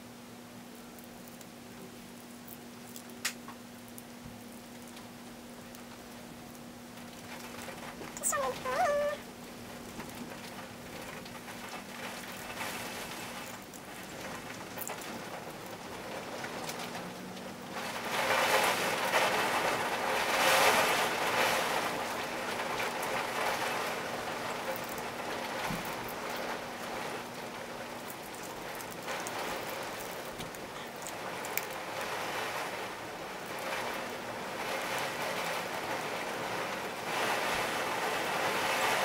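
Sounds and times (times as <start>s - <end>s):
rain falling: 3.6s - 39.0s.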